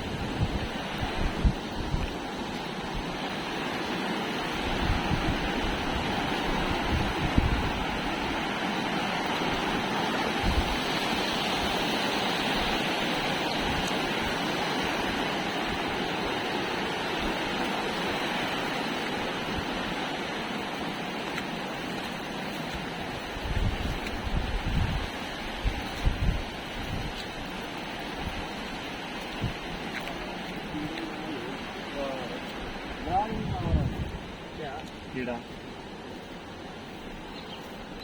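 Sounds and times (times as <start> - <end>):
wind thumping on microphone: 0.0 - 3.4, 4.4 - 8.6, 9.4 - 20.1, 21.4 - 31.3, 32.6 - 35.2
flowing water rushing: 0.0 - 38.0.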